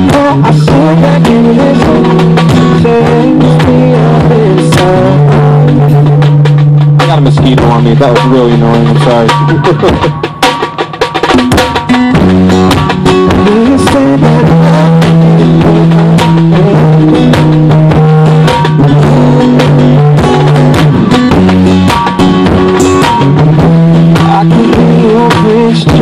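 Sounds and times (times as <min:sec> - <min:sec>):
long held bass notes: 0:00.0 - 0:10.1, 0:12.1 - 0:26.0
drum kit striking: 0:00.0 - 0:26.0
live band playing: 0:00.0 - 0:26.0.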